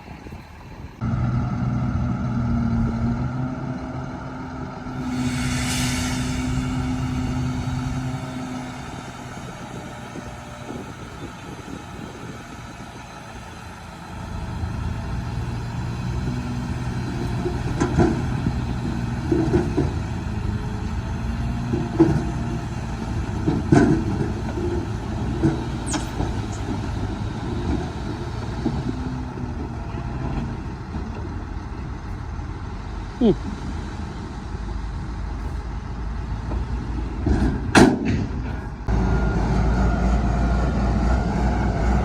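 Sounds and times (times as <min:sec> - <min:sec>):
bulldozer diesel engine: 0:00.0 - 0:42.0.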